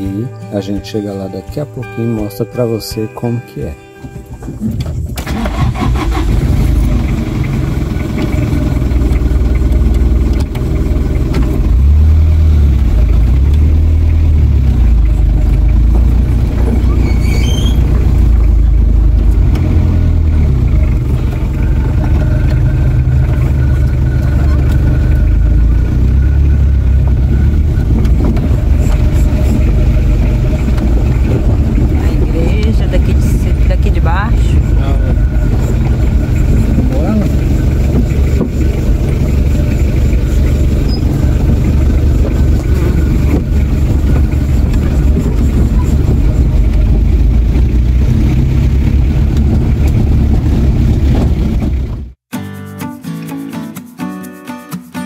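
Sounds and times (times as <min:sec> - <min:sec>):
vehicle engine and road rumble: 0:03.6 - 0:52.3.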